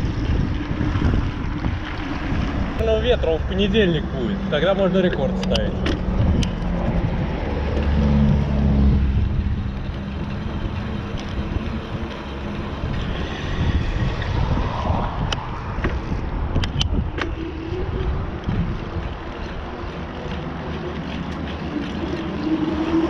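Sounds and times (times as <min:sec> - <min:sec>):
motor hum: 0:00.0 - 0:23.0
wind buffeting microphone: 0:00.0 - 0:23.0.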